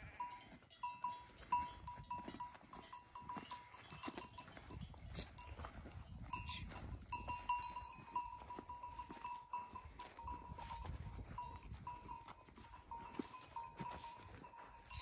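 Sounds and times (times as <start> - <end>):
animal bells jingling: 0.0 - 15.0.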